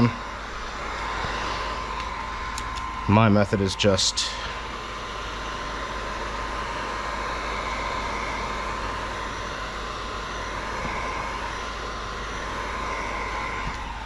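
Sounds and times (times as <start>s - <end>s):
heat gun blowing: 0.0s - 14.0s.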